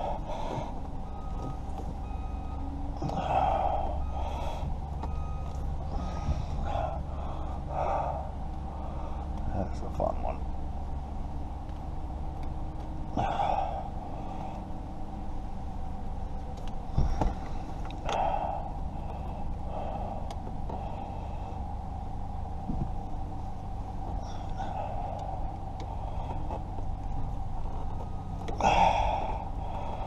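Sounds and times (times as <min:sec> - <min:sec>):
person breathing hard: 0:00.0 - 0:01.3, 0:02.8 - 0:09.5, 0:13.0 - 0:30.0
steady low hum: 0:00.0 - 0:30.0.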